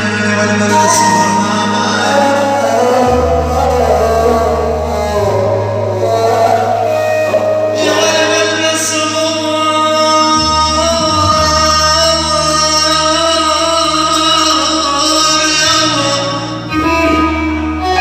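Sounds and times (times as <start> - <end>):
instrumental accompaniment: 0.0 - 18.0
man singing long held notes: 0.0 - 18.0.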